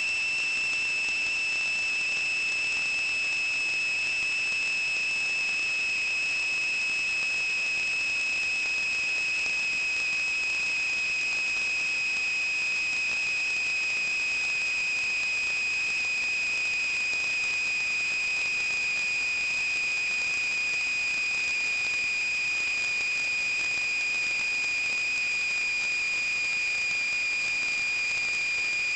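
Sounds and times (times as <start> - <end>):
high-pitched whistle: 0.0 - 28.9.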